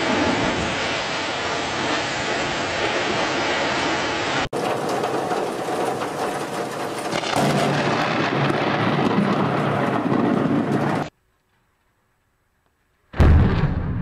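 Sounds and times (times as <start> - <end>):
storm noise: 0.0 - 11.1, 13.2 - 14.0
thunder rumbling: 0.0 - 11.1, 13.2 - 14.0.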